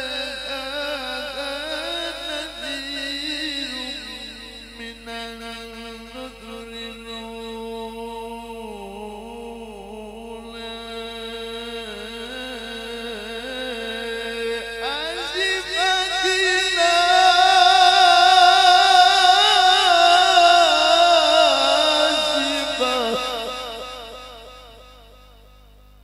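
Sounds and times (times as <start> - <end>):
man chanting through microphone: 0.0 - 25.3.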